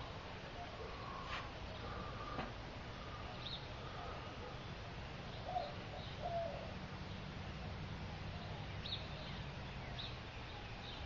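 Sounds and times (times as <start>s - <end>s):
bird calls: 0.0s - 11.0s.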